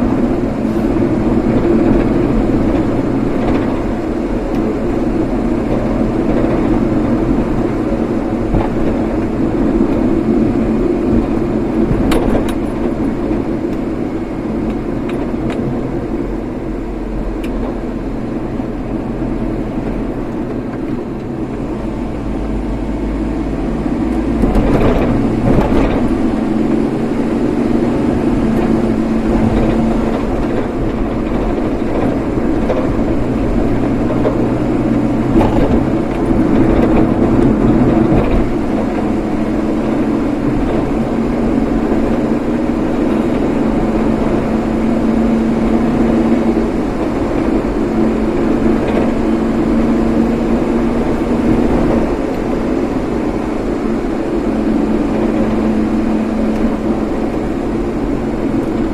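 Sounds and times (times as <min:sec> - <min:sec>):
vehicle engine and road noise: 0:00.0 - 0:58.9.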